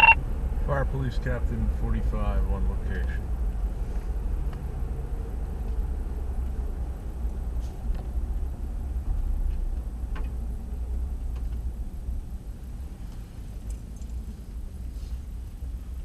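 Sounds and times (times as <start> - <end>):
vehicle engine and tyres rumble: 0.0 - 16.0.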